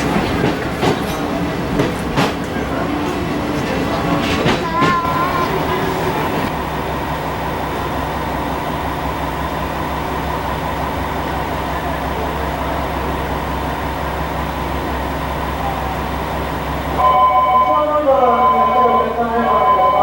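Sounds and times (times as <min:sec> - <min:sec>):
train noise: 0:00.0 - 0:20.0.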